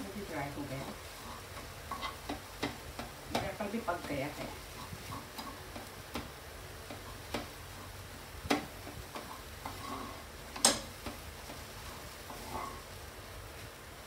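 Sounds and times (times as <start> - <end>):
faint steady background noise: 0.0 - 14.0
spatula scraping a frying pan: 0.6 - 13.0.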